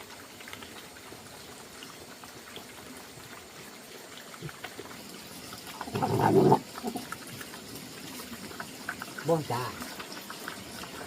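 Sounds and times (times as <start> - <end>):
rush of water: 0.0 - 11.0
water trickling faintly: 0.0 - 11.0.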